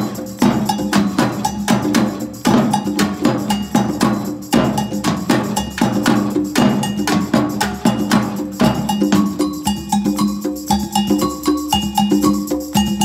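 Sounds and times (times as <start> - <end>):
drums and hand percussion: 0.0 - 13.0.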